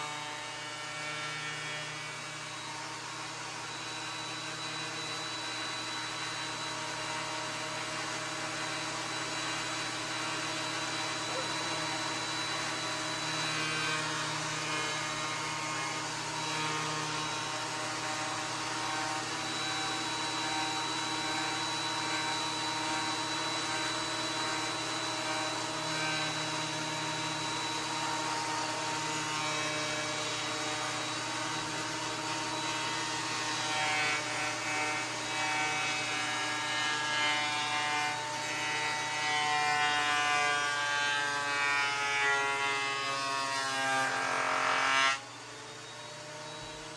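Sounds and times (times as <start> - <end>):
thickness planer motor whine: 0.0 - 46.9.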